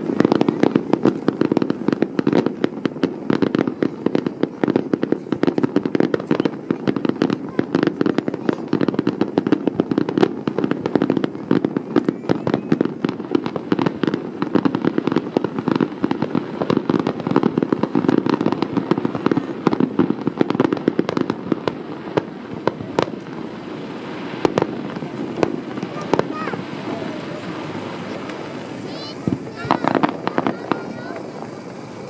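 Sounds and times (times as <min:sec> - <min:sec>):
continuous rumble: 0:00.0 - 0:32.0
fireworks bursting and crackling: 0:00.0 - 0:32.0.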